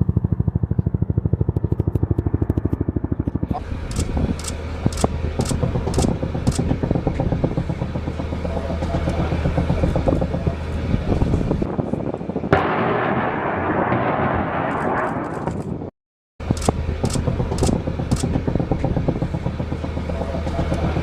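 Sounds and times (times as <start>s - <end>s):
helicopter engine and rotor hum: 0.0s - 12.5s, 16.4s - 21.0s.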